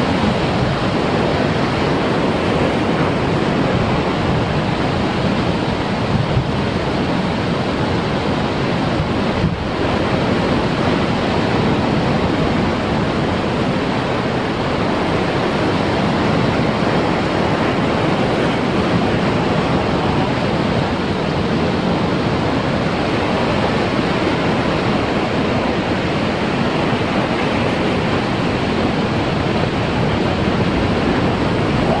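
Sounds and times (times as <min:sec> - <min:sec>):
heavy surf breaking on rocks: 0:00.0 - 0:32.0.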